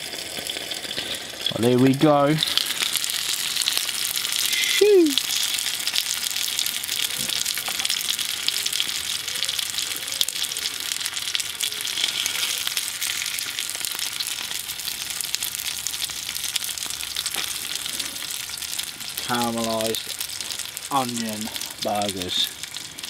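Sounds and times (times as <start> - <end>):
patties sizzling in a pan: 0.0 - 23.0.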